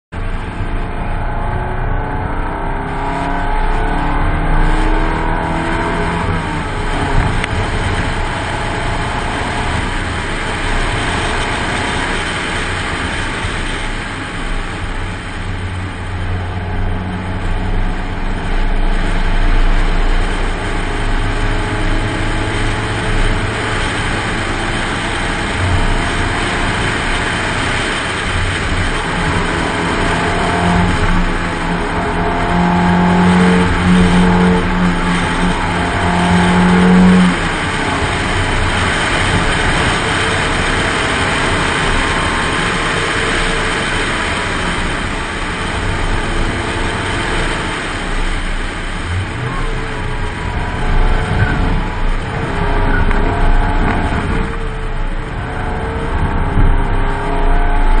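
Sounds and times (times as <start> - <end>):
car engine revving: 0.1 - 58.0
road and wind noise: 0.1 - 58.0.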